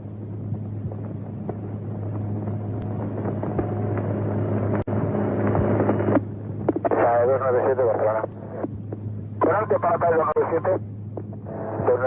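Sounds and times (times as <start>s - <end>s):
radio hum and hiss: 0.0s - 12.0s.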